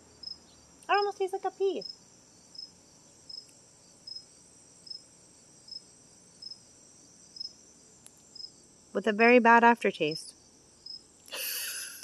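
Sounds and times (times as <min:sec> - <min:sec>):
crickets chirping: 0:00.0 - 0:12.0
high insect trill: 0:00.0 - 0:12.0.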